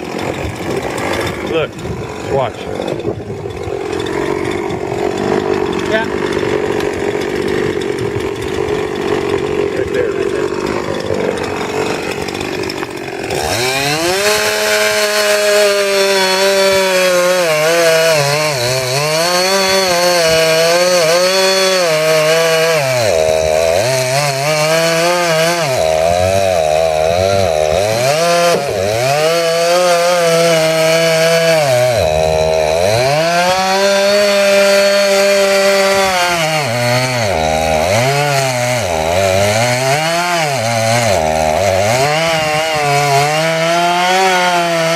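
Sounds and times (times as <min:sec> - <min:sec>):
chainsaw cutting into tree: 0:00.0 - 0:44.9.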